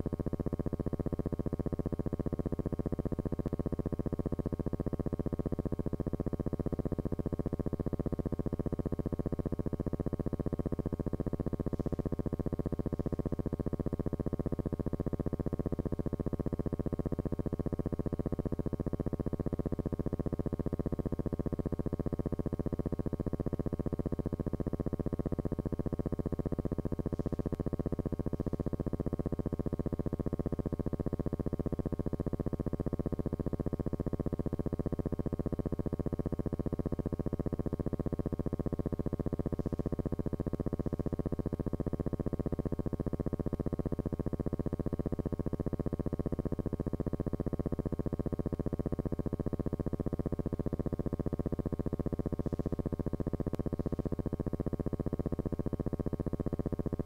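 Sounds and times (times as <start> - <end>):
low electrical buzz: 0.0 - 57.0.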